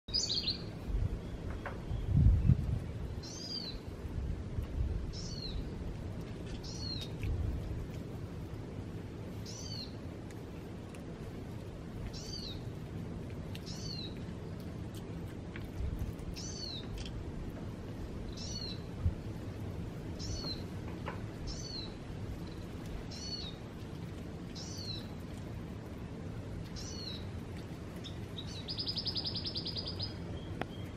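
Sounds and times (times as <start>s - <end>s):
low background noise: 0.1s - 30.9s.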